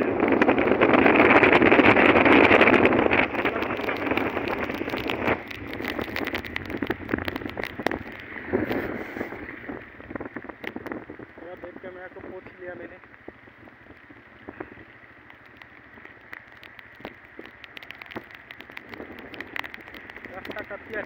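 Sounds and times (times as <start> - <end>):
rushing wind and road noise: 0.0 - 21.0
raindrops ticking on phone: 2.4 - 21.0.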